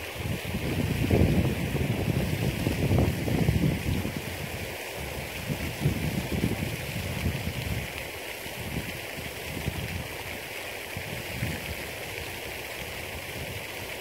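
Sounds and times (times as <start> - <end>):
wind buffeting microphone: 0.0 - 10.4, 11.0 - 12.3, 12.9 - 14.0.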